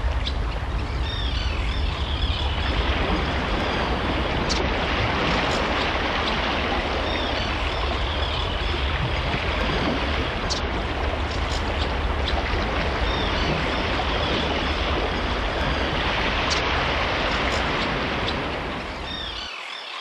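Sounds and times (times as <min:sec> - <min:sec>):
deep low rumble: 0:00.0 - 0:19.3
rushing water: 0:00.0 - 0:20.0.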